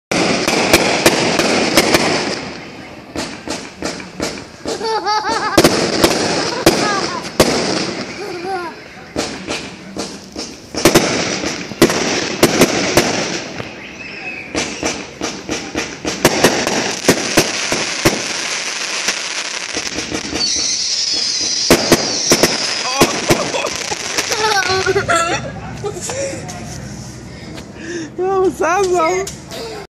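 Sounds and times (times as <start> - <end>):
fireworks bangs: 0.1 - 25.8
fireworks crackling: 0.1 - 27.3.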